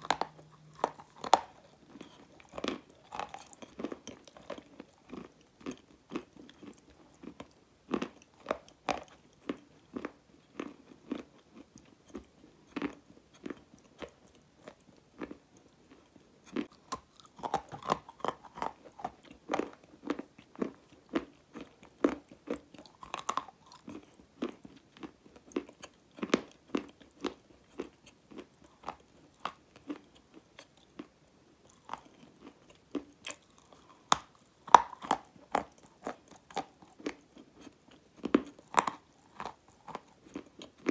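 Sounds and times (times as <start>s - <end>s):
crunching and chewing clay: 0.0s - 40.9s.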